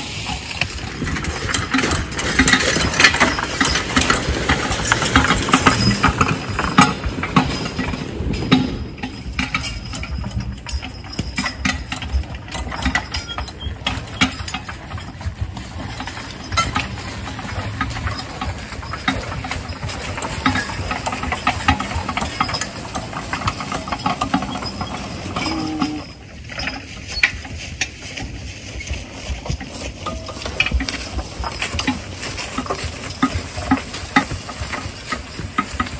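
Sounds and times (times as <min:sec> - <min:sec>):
harness and chain rattling: 0:00.0 - 0:35.9.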